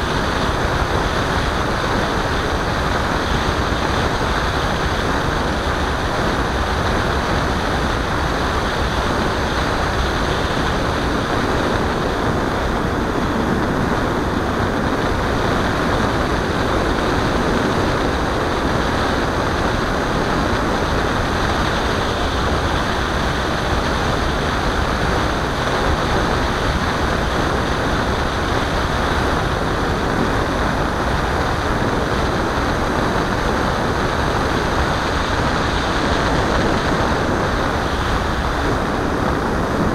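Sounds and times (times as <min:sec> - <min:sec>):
airflow and propeller rushing: 0:00.0 - 0:39.9.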